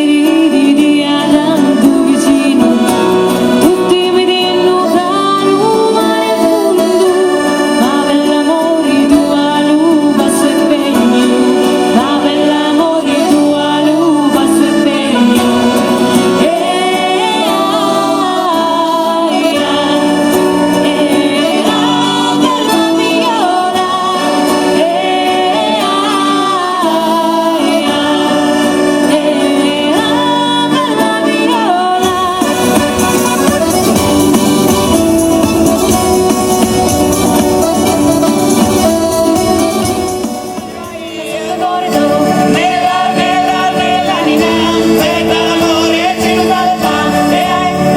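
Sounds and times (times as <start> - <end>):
accordion: 0.0 - 47.9
person singing folk song: 0.0 - 47.9.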